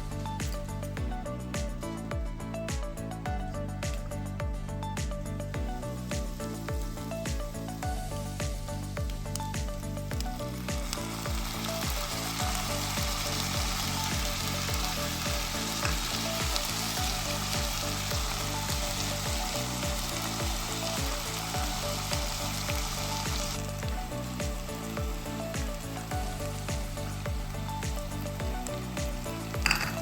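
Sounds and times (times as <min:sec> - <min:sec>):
background music with beat: 0:00.0 - 0:30.0
pork sizzling in a pan: 0:00.0 - 0:30.0.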